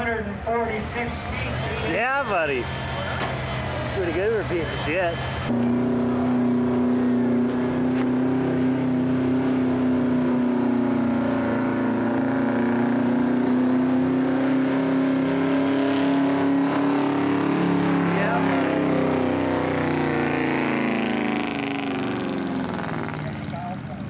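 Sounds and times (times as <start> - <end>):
truck engine at high revs: 0.9 - 23.8.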